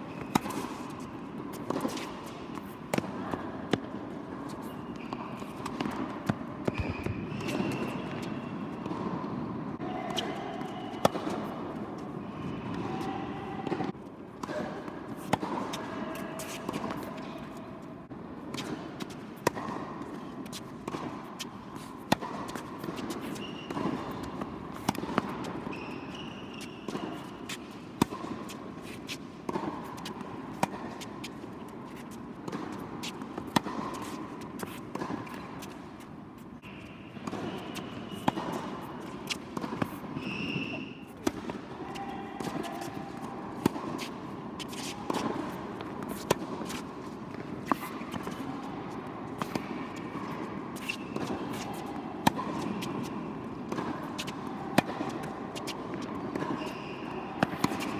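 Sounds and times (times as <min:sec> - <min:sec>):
shoes squeaking on court: 0:00.0 - 0:09.3, 0:10.0 - 0:17.9, 0:18.6 - 0:57.9
tennis ball struck by rackets: 0:00.2 - 0:04.0, 0:10.1 - 0:12.0, 0:13.6 - 0:17.6, 0:18.5 - 0:36.2, 0:37.0 - 0:57.9.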